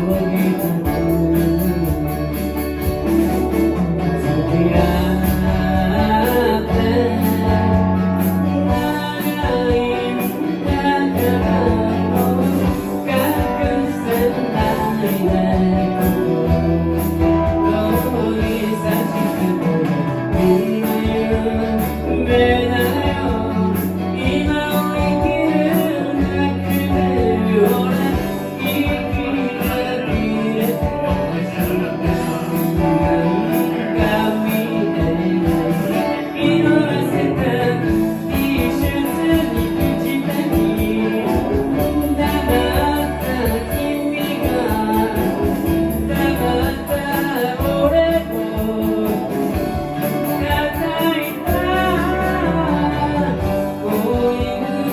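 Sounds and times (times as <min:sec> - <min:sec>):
bass: 0:00.0 - 0:54.9
guitar: 0:00.0 - 0:54.9
person singing: 0:00.0 - 0:54.9
steady drum beat: 0:00.0 - 0:54.9.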